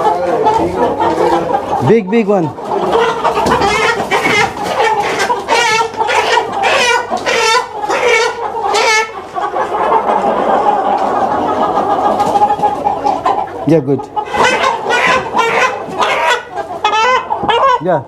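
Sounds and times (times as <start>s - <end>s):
chickens clucking: 0.0s - 18.0s
chickens squawking: 0.0s - 18.0s.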